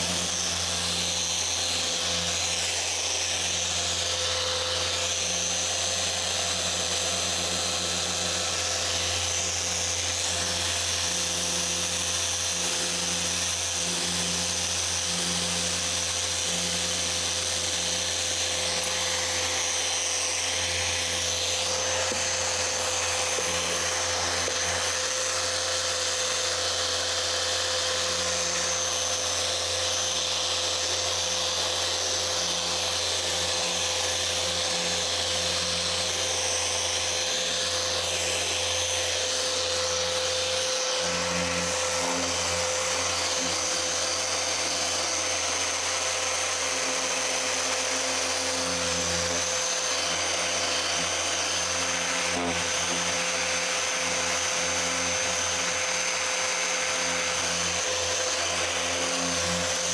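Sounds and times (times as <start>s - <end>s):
orbital polisher whirring: 0.0s - 59.9s.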